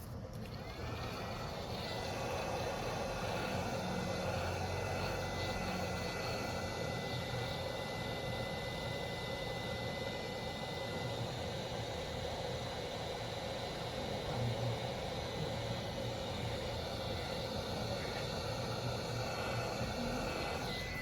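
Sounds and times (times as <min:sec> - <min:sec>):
faint steady tones: 0:00.0 - 0:21.0.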